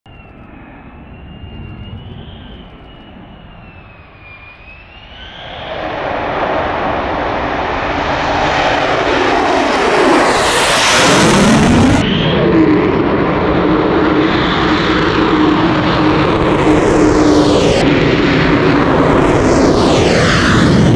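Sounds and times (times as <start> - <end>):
jet engine whine and roar: 0.1 - 20.9.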